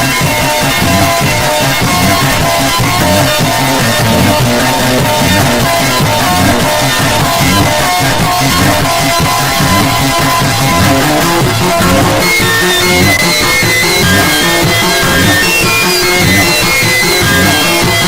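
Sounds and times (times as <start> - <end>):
rock music with guitar and drums: 0.0 - 18.0.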